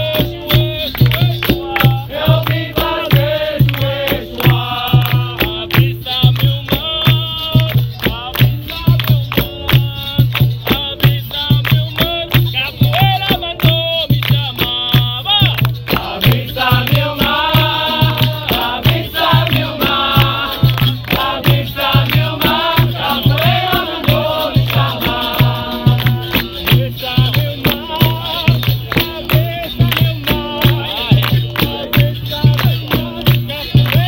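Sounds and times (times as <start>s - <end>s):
voices singing together: 0.0s - 34.0s.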